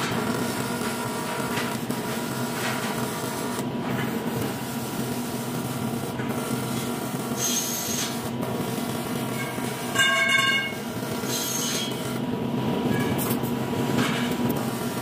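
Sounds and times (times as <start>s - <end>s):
constant hum: 0.0s - 15.0s
welding arc buzzing: 0.0s - 15.0s.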